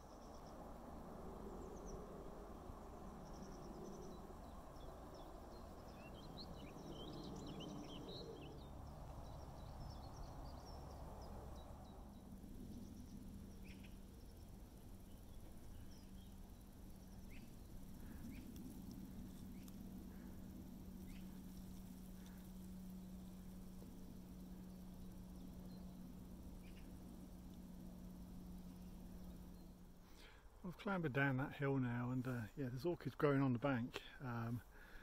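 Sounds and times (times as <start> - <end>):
faint low hum: 0.0 - 35.0
small birds chirping: 0.0 - 35.0.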